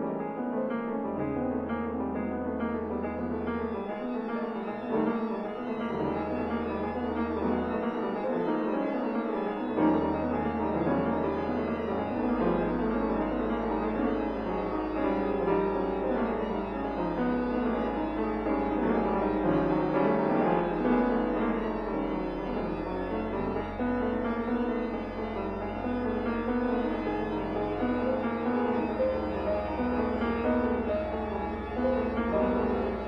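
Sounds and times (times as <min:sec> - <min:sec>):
slow classical keyboard music: 0:00.0 - 0:33.0.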